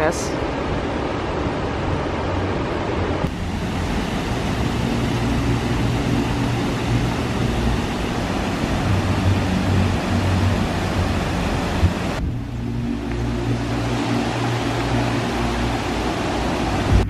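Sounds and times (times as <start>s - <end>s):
low rumble of water: 0.0s - 17.0s
waterfall rushing: 0.0s - 17.0s.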